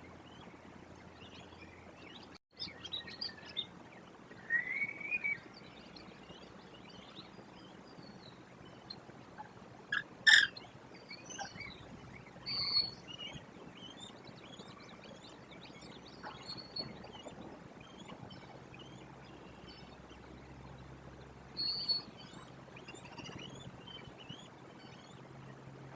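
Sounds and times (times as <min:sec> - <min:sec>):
small birds chirping: 0:00.0 - 0:25.9
high bird calls: 0:01.3 - 0:20.6, 0:21.6 - 0:25.2.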